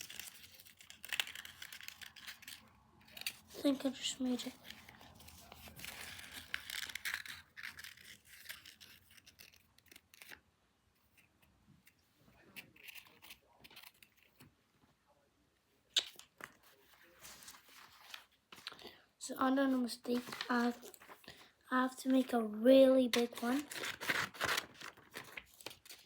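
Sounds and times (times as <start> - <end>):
paper rustling: 0.0 - 10.4, 12.4 - 14.5, 16.1 - 19.0, 19.6 - 26.0.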